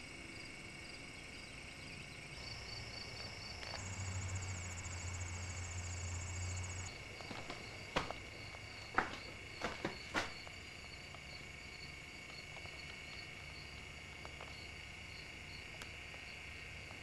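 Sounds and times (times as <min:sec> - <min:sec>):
insects chirping in trills: 0:00.0 - 0:17.0
low hum: 0:00.0 - 0:17.0.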